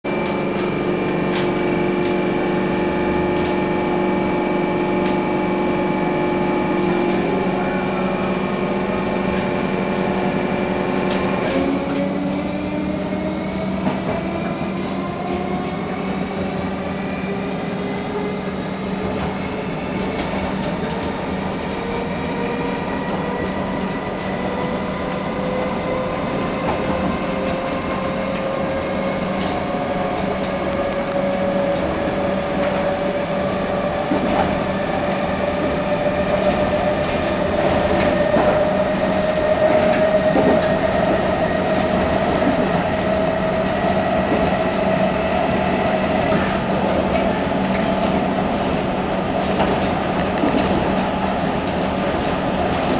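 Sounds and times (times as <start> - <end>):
train hum and rolling noise: 0.0 - 52.9
electric train motor whine: 0.1 - 52.9
wheels clicking on rails: 0.1 - 52.9.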